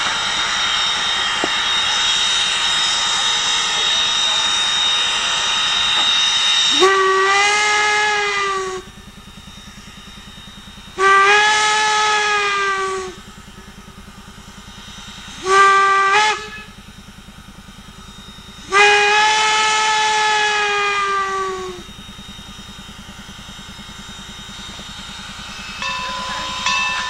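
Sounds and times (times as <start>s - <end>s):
steam locomotive whistle blasts: 0.0s - 17.0s, 18.0s - 27.0s
fast low pulsing: 0.0s - 27.0s.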